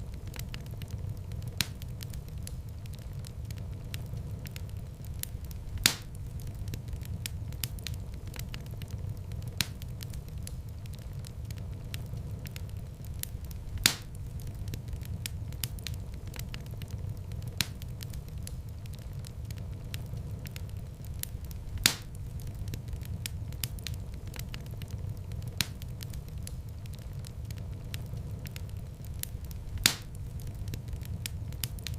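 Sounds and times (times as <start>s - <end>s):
fireplace fire crackling: 0.0s - 31.9s
low rumble of flames: 0.0s - 31.9s
sharp pops of fire: 0.0s - 31.9s.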